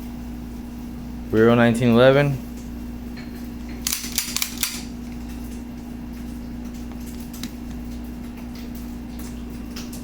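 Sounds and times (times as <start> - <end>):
steady electrical hum: 0.0 - 10.0.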